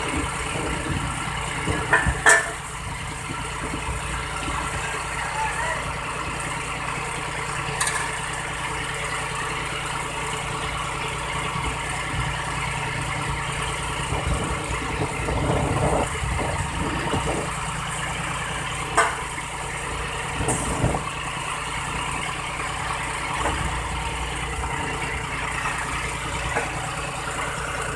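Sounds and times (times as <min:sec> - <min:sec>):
machine engine running: 0:00.0 - 0:27.9.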